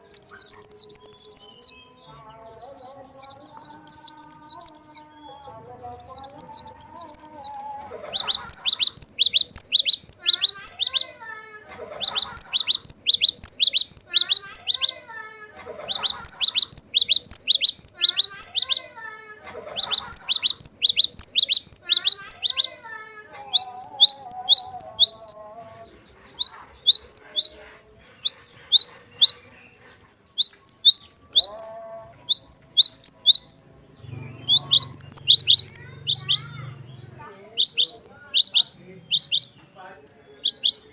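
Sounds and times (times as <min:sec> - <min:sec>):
bird singing sharp high notes: 0:00.0 - 0:05.1, 0:05.8 - 0:11.4, 0:12.0 - 0:15.2, 0:15.9 - 0:19.1, 0:19.8 - 0:25.5, 0:28.2 - 0:40.9
faint lower bird twittering: 0:00.0 - 0:40.9.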